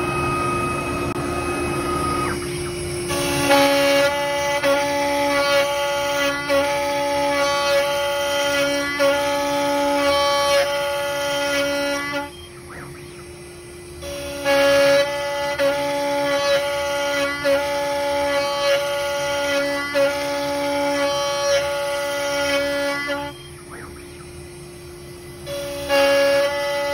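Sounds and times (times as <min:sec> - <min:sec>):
router spindle cutting wood: 0:00.0 - 0:26.9.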